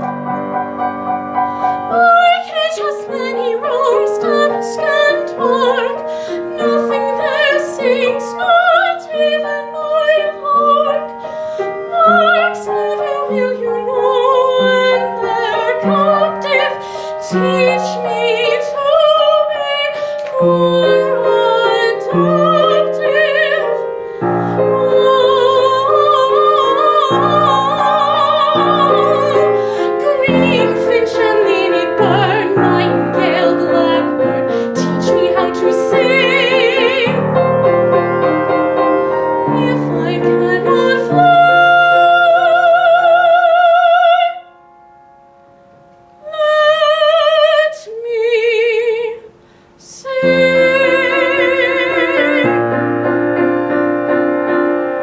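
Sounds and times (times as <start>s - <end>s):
piano accompaniment: 0.0s - 55.0s
woman singing with vibrato: 1.6s - 44.6s, 46.2s - 53.2s.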